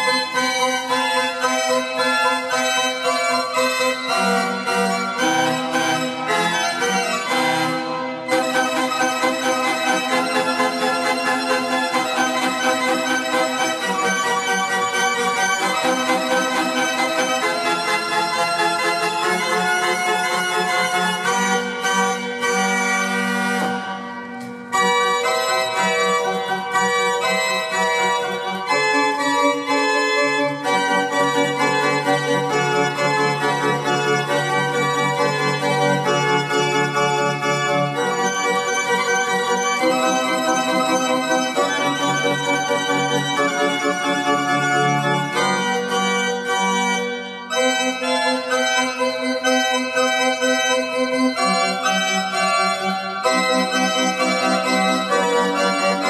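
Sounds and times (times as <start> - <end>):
organ playing slow chords: 0.1 - 56.0.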